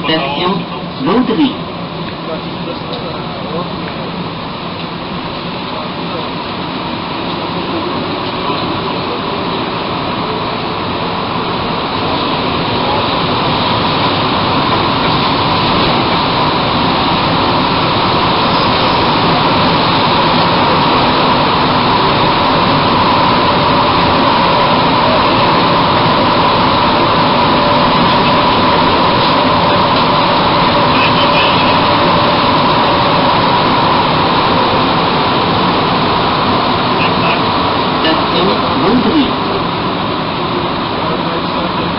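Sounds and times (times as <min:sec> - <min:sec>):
constant whine: 0:00.0 - 0:41.9
metro train rumbling in tunnel: 0:00.0 - 0:41.9.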